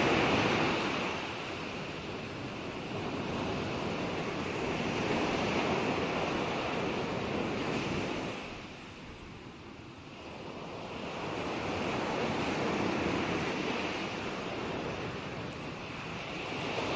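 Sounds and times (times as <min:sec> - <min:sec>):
ocean waves breaking on shore: 0:00.0 - 0:16.9.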